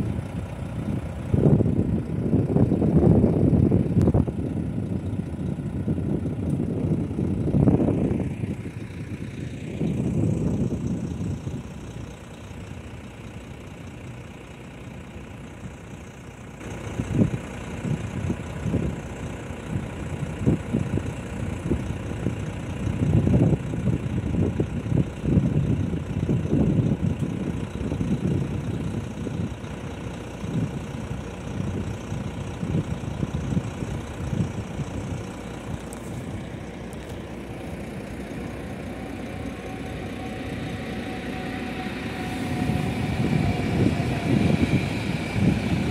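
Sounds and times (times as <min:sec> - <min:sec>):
wind buffeting microphone: 0:00.0 - 0:12.2, 0:19.7 - 0:29.6, 0:30.4 - 0:45.9
approaching passenger train: 0:00.0 - 0:45.9.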